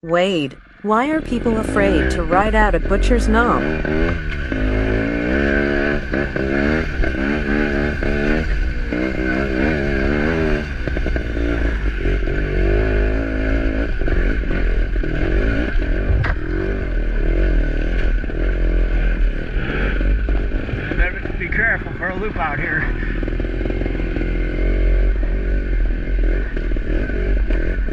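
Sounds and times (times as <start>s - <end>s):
off-road vehicle engine revving: 0.0s - 27.9s.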